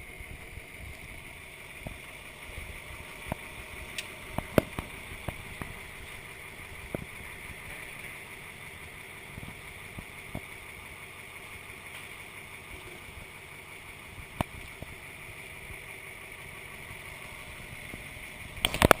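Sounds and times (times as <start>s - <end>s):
garbage truck engine running: 0.0s - 19.0s.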